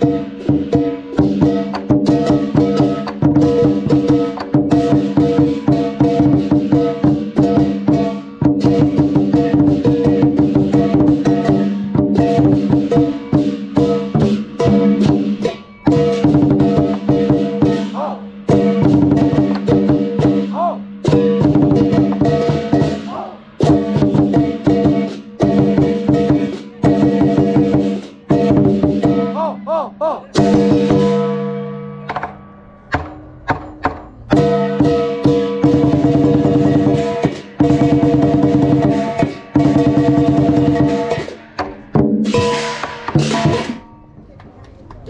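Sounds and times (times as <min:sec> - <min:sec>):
clashing cymbals: 0:00.0 - 0:29.4, 0:34.1 - 0:44.0
gong: 0:00.0 - 0:29.4, 0:30.4 - 0:41.5, 0:42.2 - 0:44.1
drum: 0:00.0 - 0:44.4.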